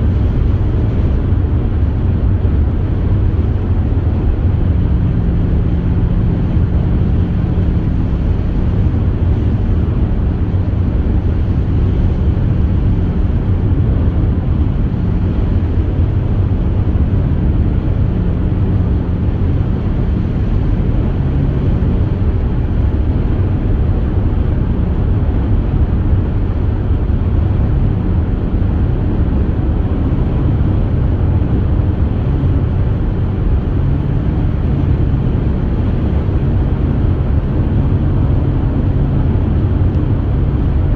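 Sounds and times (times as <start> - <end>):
car driving road noise: 0.0 - 40.9.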